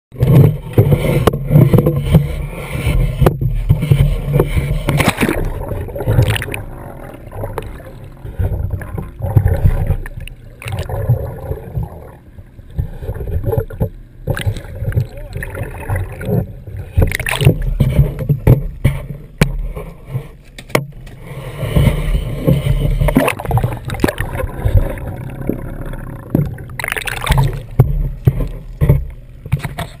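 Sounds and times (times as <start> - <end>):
muffled underwater gurgling: 0.1 - 20.4, 21.1 - 30.0
water splashing and sloshing: 0.1 - 30.0
low rumble: 0.2 - 30.0.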